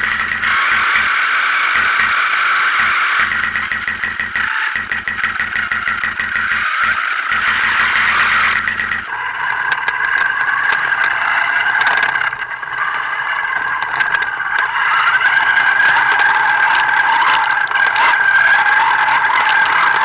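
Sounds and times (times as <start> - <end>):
rc car motor whine: 0.0 - 20.0.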